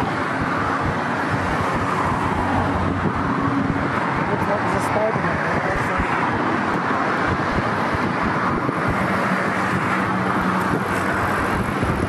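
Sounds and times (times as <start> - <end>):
city road traffic rumble: 0.0 - 12.0.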